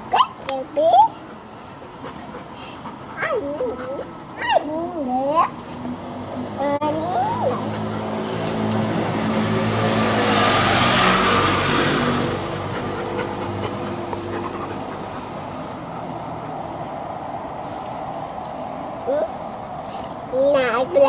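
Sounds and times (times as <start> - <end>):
tyre and road noise: 0.0 - 21.0
vehicle engine hum: 0.0 - 21.0.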